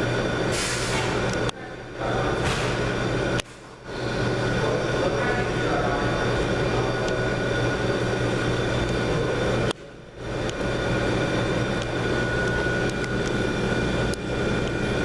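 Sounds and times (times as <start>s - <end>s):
ceiling fans humming: 0.0s - 15.0s.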